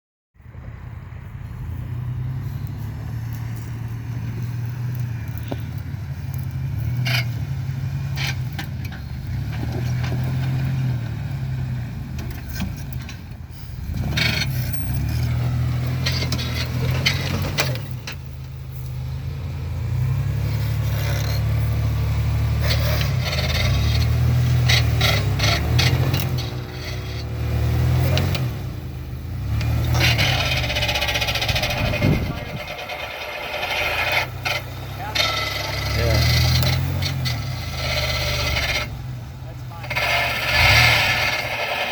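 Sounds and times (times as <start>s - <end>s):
knocks and scraping: 0.6s - 41.9s
van engine revving under load: 0.6s - 41.9s.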